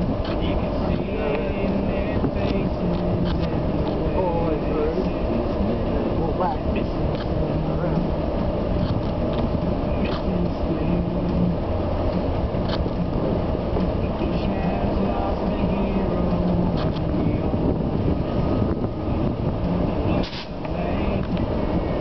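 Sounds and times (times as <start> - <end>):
low car engine rumble: 0.0 - 22.0.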